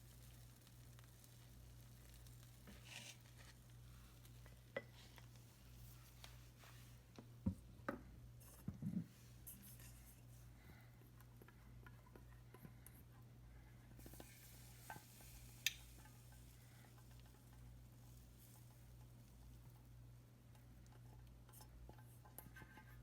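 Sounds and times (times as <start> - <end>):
utensil stirring food in a pan: 0.0 - 6.9, 9.3 - 23.0.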